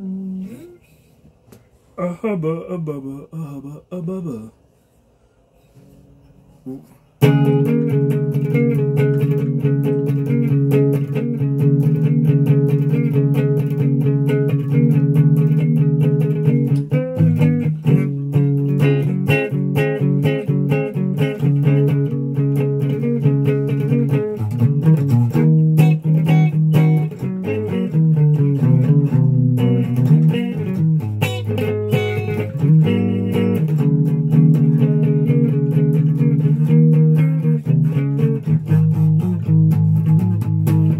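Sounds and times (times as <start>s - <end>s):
electric guitar riffs: 6.7s - 40.9s.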